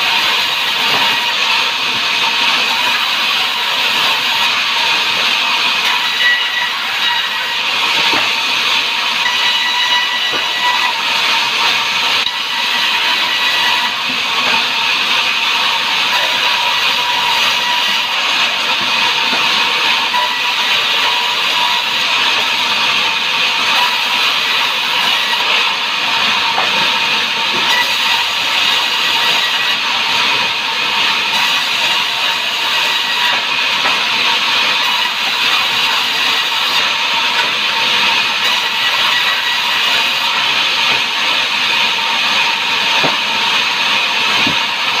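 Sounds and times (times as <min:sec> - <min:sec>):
sawmill machinery hissing: 0:00.0 - 0:45.0.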